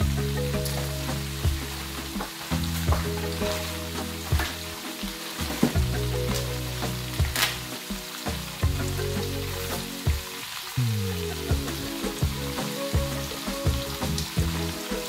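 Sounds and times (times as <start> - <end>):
low background music: 0.0 - 15.0
potatoes sizzling in grease: 0.0 - 15.0.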